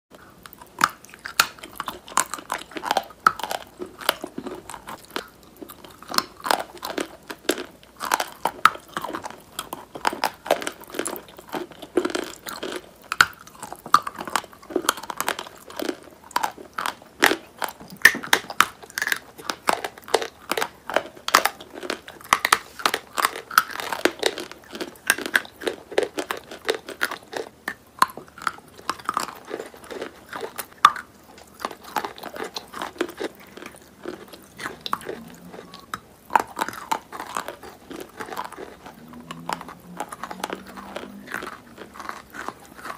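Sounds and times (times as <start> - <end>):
person crunching and chewing: 0.1 - 42.9.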